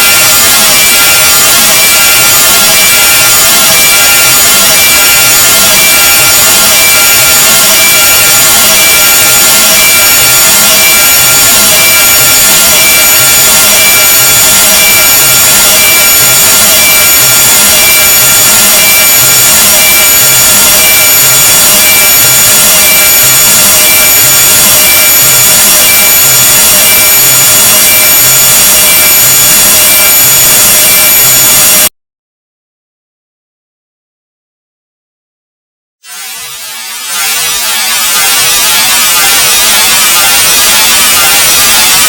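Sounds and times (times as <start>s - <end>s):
harsh grating hiss with shrill tones: 0.0s - 31.9s, 36.1s - 42.0s.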